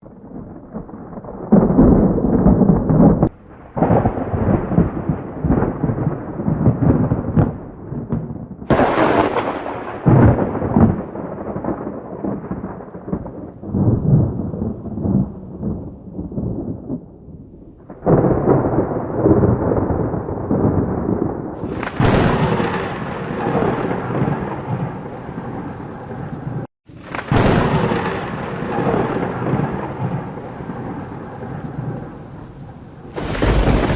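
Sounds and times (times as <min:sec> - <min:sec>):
steady rain: 0:00.0 - 0:17.2, 0:21.6 - 0:33.9
rolling thunder: 0:00.0 - 0:33.9
sharp thunder cracks: 0:00.0 - 0:33.9.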